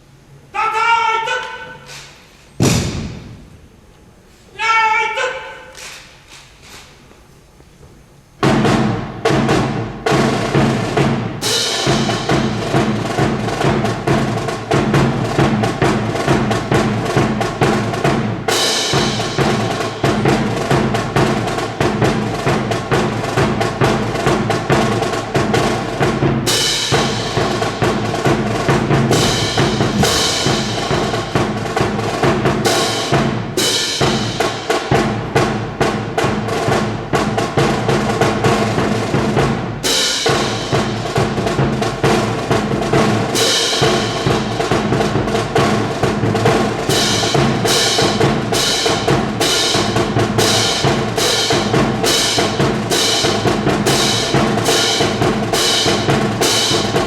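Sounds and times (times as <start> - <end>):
snare and bass drum: 2.6 - 3.9, 8.4 - 57.0
military band playing a march: 8.4 - 57.0.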